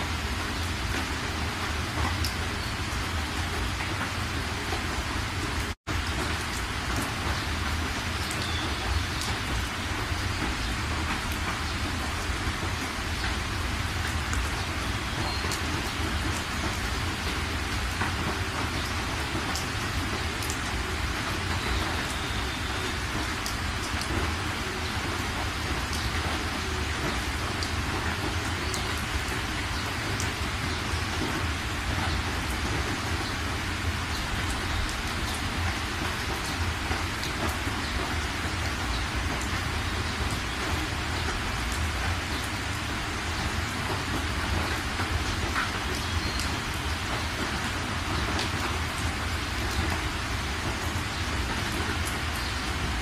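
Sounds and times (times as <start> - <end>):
heavy rain on car: 0.0 - 53.0.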